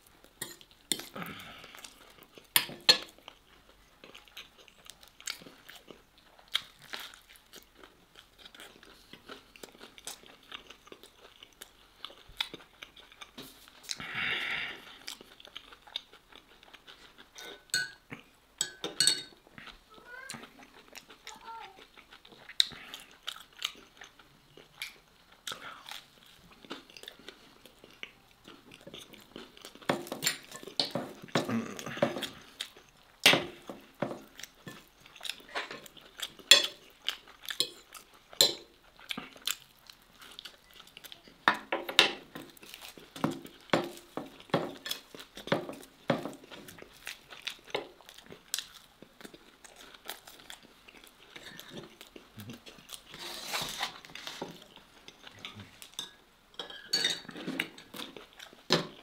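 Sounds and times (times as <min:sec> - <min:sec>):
person chewing crunchy food: 0:00.0 - 0:56.2, 0:57.2 - 0:59.0.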